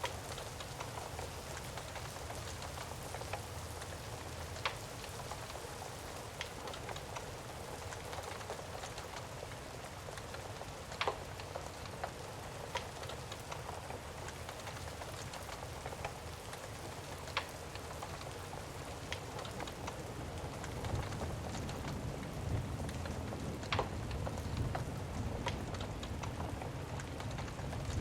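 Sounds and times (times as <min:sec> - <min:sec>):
fire crackling pops: 0:00.0 - 0:28.0
steady rain pouring: 0:00.0 - 0:28.0.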